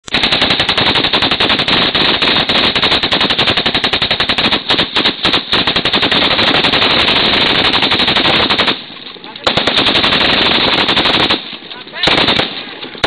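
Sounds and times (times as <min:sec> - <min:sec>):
machine gun firing: 0:00.1 - 0:13.0.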